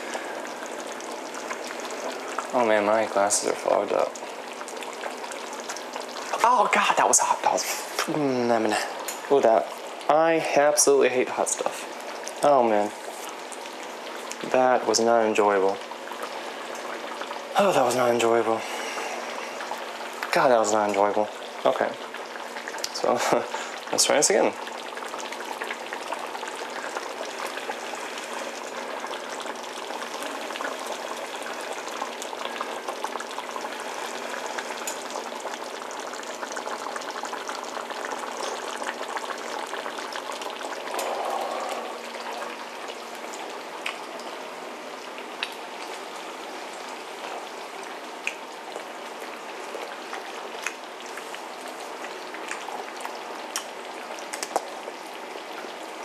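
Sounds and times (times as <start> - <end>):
thick chili bubbling and sizzling: 0.0 - 56.0.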